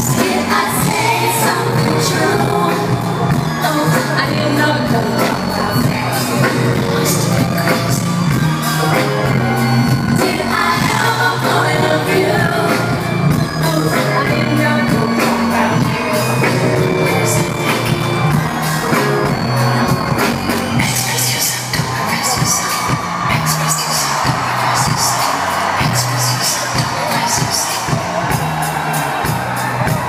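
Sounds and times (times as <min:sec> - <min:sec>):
live pop music with singing: 0:00.0 - 0:30.0.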